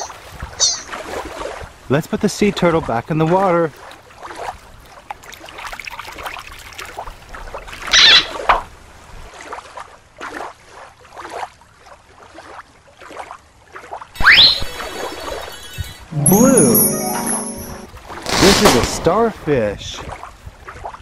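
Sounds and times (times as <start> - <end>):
water sloshing and splashing: 0.0 - 1.9, 3.2 - 15.5, 17.9 - 21.0.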